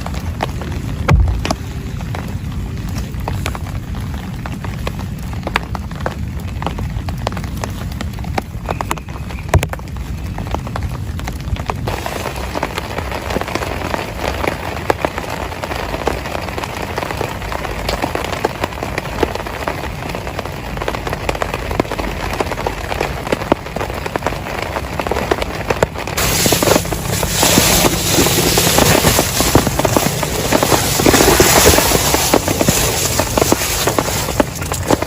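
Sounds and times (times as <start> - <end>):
heavy rain pattering: 0.0 - 35.0.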